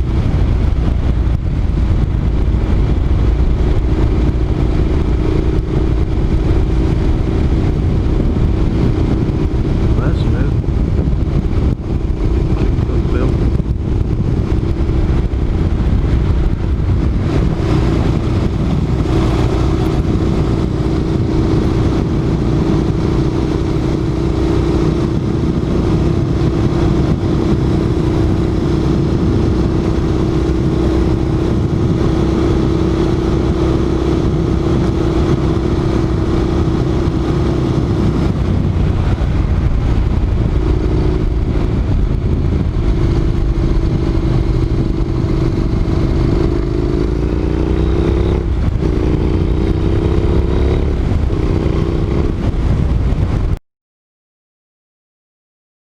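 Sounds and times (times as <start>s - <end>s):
motorcycle engine running: 0.0s - 53.6s.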